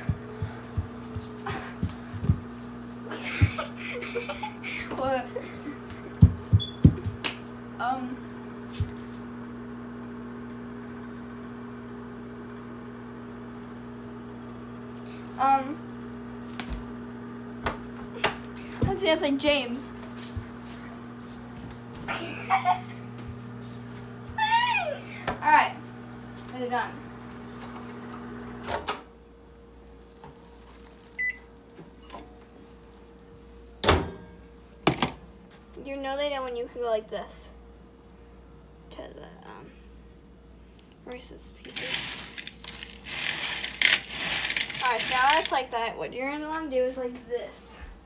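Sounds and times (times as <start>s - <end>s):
microwave oven humming: 0.0s - 48.0s.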